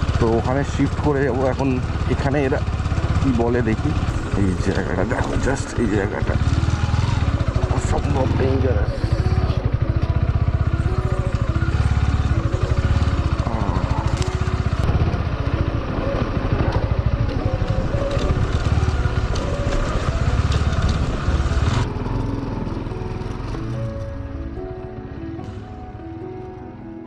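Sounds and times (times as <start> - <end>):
motorcycle engine running: 0.0 - 26.7.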